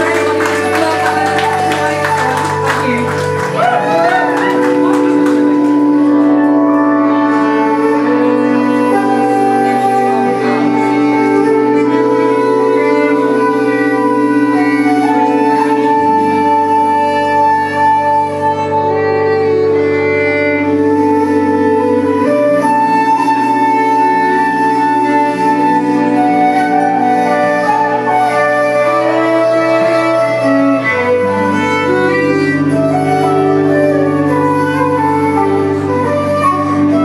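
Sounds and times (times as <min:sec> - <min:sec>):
fiddle playing slow tune: 0:00.0 - 0:37.0
held low chords: 0:00.0 - 0:37.0
woodwind: 0:00.0 - 0:37.0.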